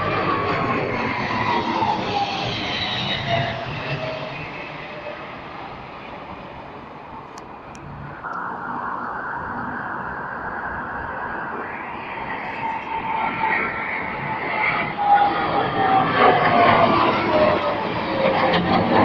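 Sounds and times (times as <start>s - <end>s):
jet aircraft rushing overhead: 0.0s - 19.0s.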